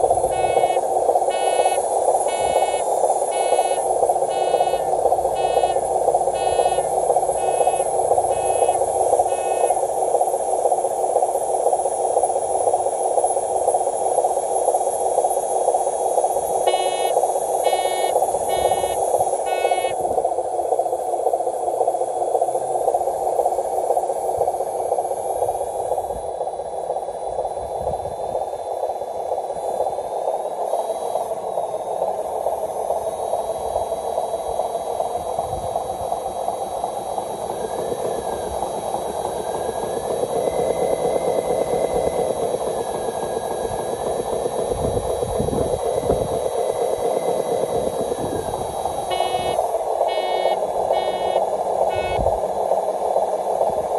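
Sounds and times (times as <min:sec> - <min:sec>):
rc truck mechanical drone: 0:00.0 - 0:53.9.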